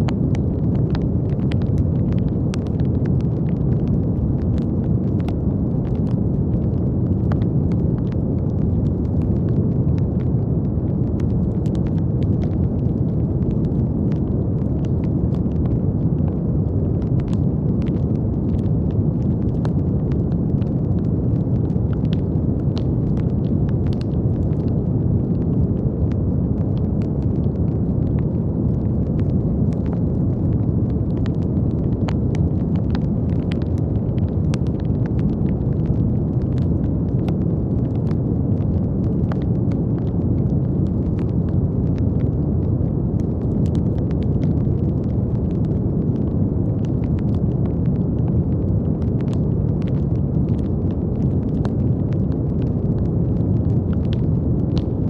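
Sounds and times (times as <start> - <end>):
faint crackling clicks: 0.0 - 55.0.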